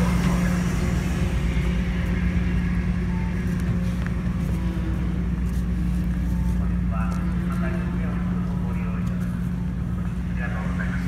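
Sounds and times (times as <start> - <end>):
ferry engine drone: 0.0 - 11.0.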